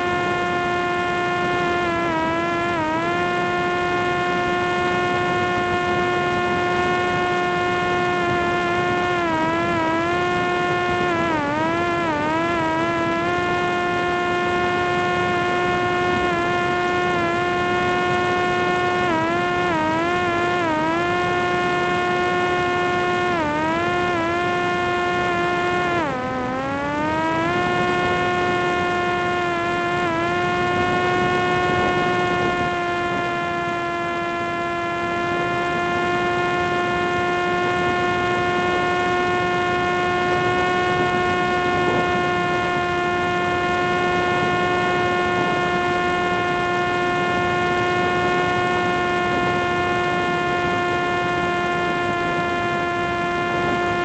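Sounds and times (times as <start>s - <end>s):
electric motor and propeller whining: 0.0s - 54.0s.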